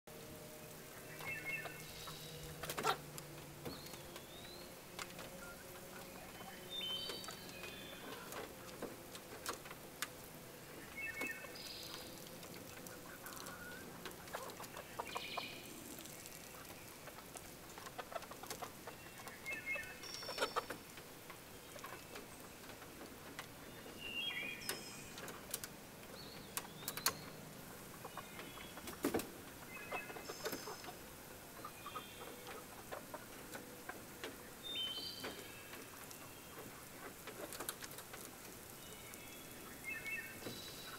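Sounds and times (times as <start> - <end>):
hens clucking: 1.0 - 24.0, 25.2 - 34.6, 35.2 - 38.7.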